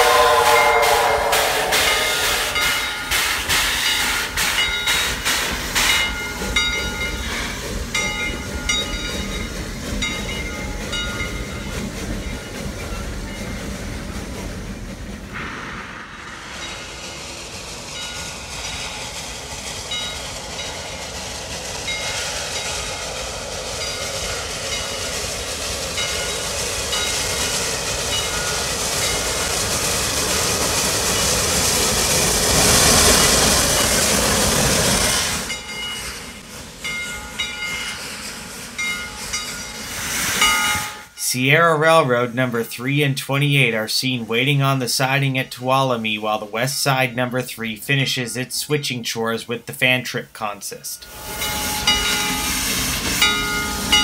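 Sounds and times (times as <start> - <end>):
steam hiss and rumble: 0.0 - 54.0
steam locomotive exhaust beats: 0.0 - 54.0.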